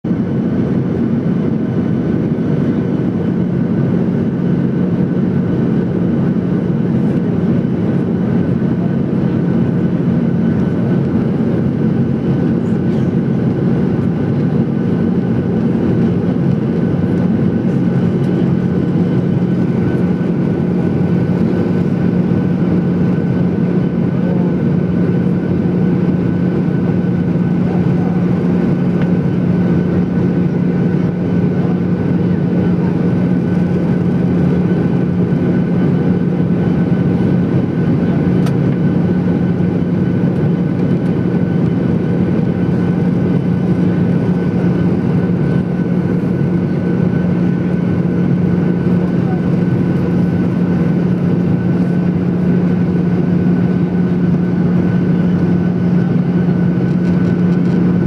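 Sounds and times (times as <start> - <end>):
constant low hum: 0.0 - 58.0
jet engines droning: 0.1 - 58.0.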